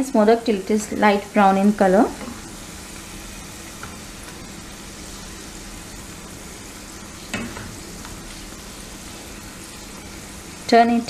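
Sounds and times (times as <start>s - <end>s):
oil sizzling while deep-frying: 0.0s - 11.0s.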